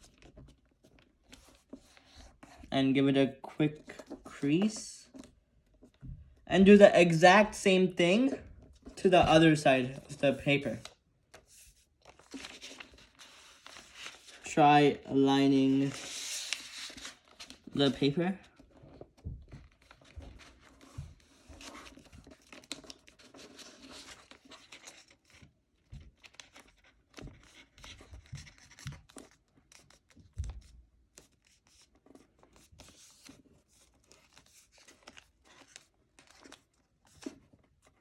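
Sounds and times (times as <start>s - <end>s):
paper rustling and crinkling: 7.4s - 38.0s.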